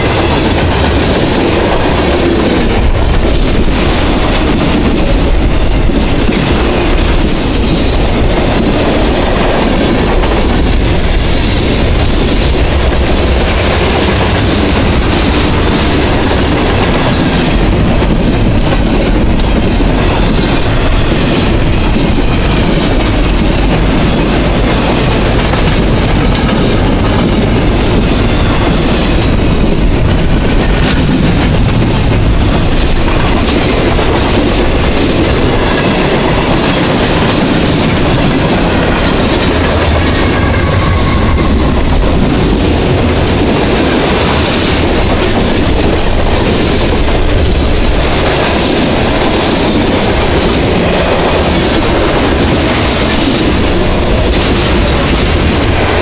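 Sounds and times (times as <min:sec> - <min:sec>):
freight train rumbling: 0:00.0 - 0:56.0.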